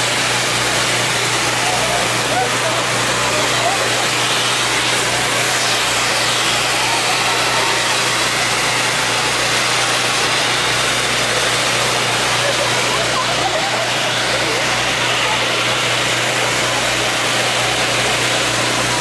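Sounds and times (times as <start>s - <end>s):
fireworks rushing hiss: 0.0s - 19.0s.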